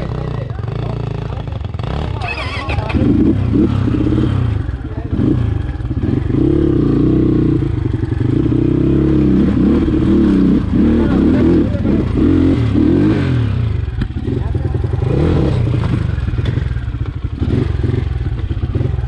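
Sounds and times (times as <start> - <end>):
dirt bike engine revving: 0.0 - 19.0
engine clatter: 0.0 - 19.0.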